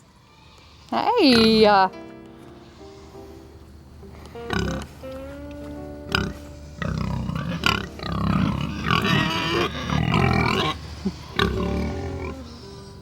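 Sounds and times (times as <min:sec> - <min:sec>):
hogs grunting: 0:00.0 - 0:01.9, 0:04.1 - 0:13.0.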